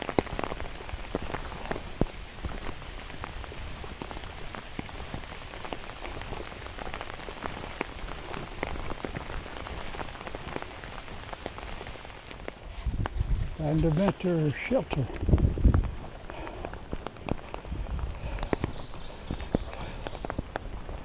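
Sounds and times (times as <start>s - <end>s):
raindrops tapping close by: 0.0s - 21.0s
steady rain: 0.0s - 21.0s.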